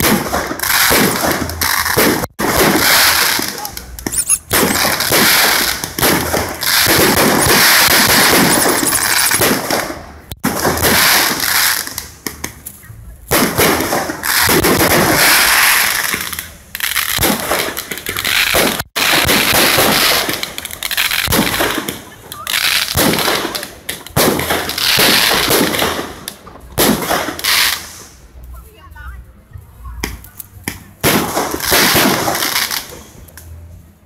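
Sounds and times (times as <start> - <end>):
fireworks crackling and banging: 0.0 - 28.8, 29.9 - 33.7.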